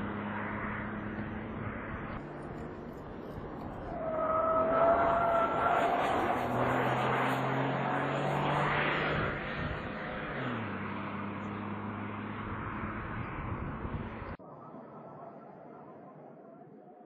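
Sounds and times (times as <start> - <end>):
race car engine at full throttle: 0.0 - 14.4.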